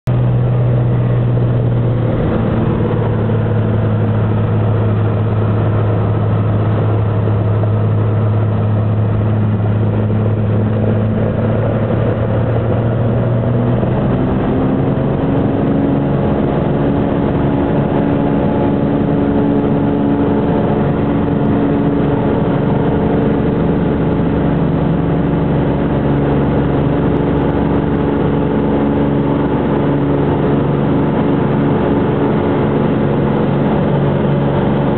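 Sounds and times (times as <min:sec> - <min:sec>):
plane engine and propeller: 0:00.0 - 0:34.9.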